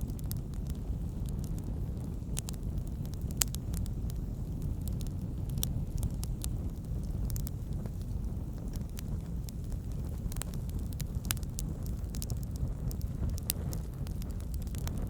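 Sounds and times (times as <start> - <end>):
campfire flames rumbling: 0.0 - 15.0
fire popping and snapping: 0.0 - 15.0.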